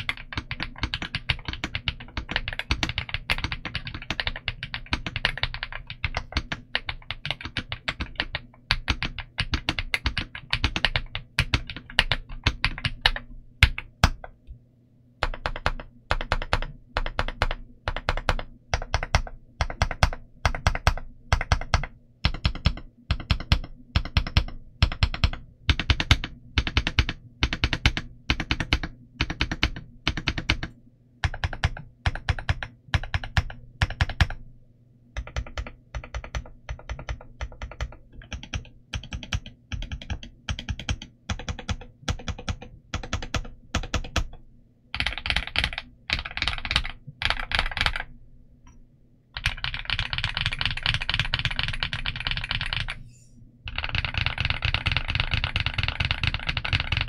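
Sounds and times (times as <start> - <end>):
mechanical keyboard typing: 0.0 - 14.4, 15.2 - 34.4, 35.2 - 44.4, 45.0 - 48.1, 49.4 - 53.0, 53.7 - 57.0.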